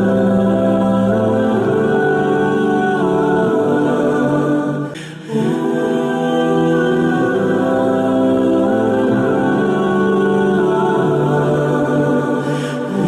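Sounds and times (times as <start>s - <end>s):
wordless choir-like chords: 0.0s - 13.0s.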